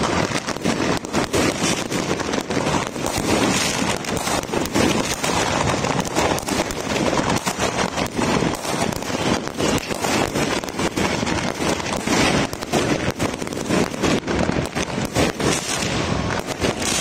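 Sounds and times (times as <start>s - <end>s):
fireworks and firecrackers barrage: 0.0s - 17.0s.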